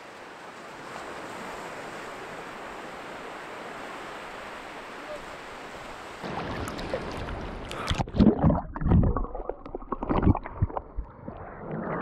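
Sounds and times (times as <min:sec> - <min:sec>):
water splashing and sloshing: 0:00.4 - 0:12.0.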